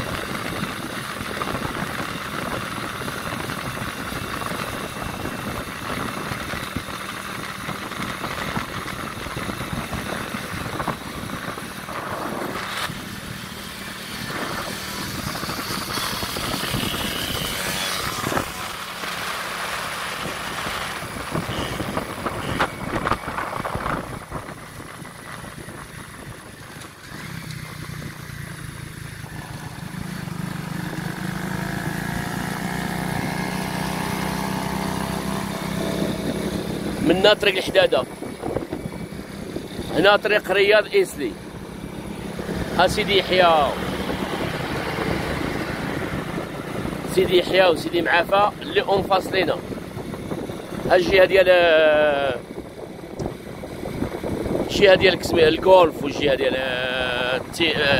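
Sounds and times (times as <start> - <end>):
vehicle engine running: 0.0 - 51.7
road and wind noise: 0.0 - 57.9.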